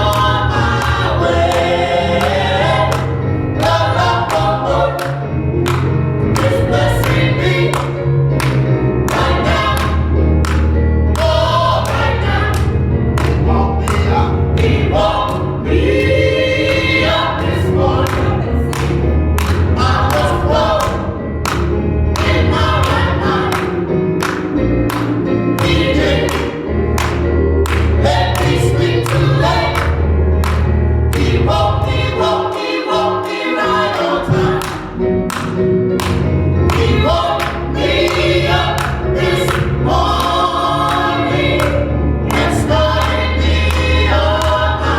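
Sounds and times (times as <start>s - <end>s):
gospel choir singing: 0.0s - 44.9s.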